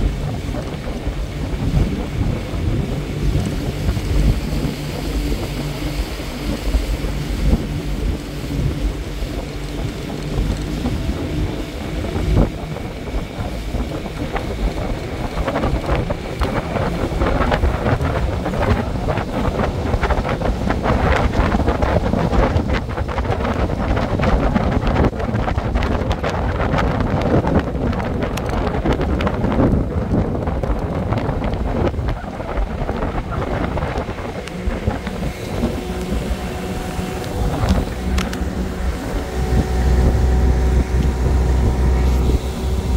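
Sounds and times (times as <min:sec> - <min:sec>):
outboard motor running: 0:00.0 - 0:42.9
water splashing: 0:00.0 - 0:42.9
wind buffeting microphone: 0:00.0 - 0:42.9.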